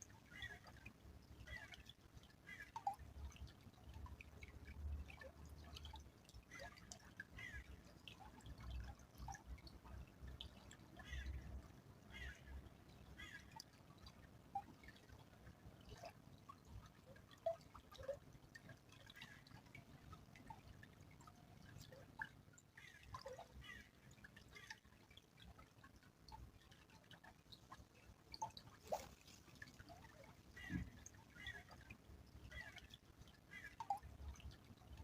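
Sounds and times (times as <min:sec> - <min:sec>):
small stream trickling: 0:00.0 - 0:35.0
water drips: 0:00.0 - 0:35.0.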